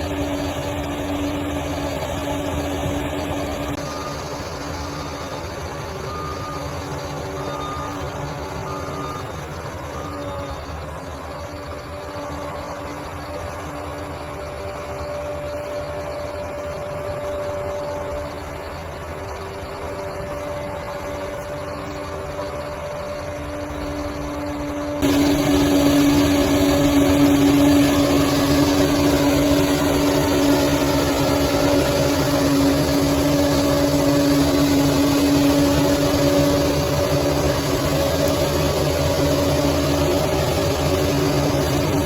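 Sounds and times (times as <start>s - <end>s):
diesel engine humming: 0.0s - 42.0s.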